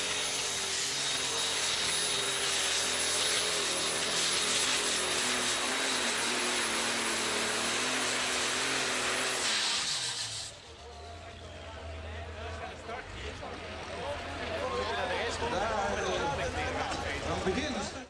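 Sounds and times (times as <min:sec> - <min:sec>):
diesel tractor engine running: 0:00.0 - 0:16.5.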